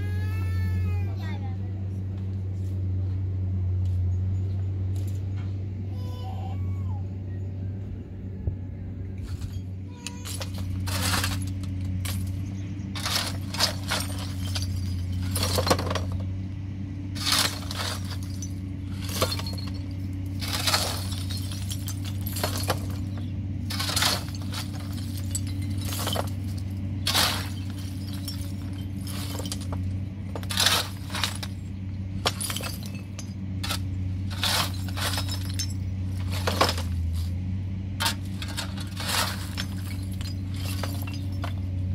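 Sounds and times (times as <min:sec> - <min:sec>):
low hum: 0:00.0 - 0:41.9.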